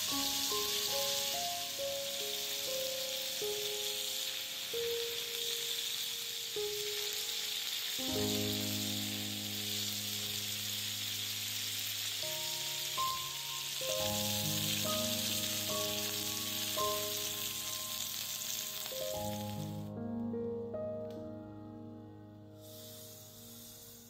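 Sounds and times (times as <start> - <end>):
kebabs sizzling in hot oil: 0.0 - 19.9, 22.6 - 24.0
soft background music: 0.0 - 24.0.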